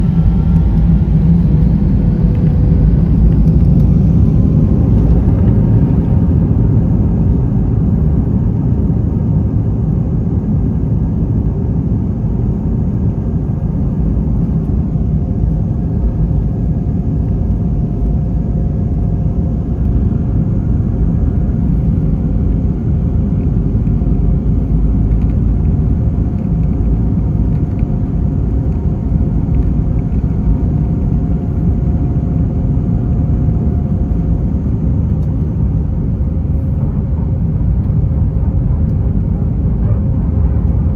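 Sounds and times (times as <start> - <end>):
faint engine tones: 0.0 - 40.9
jet engines rumbling: 0.0 - 40.9.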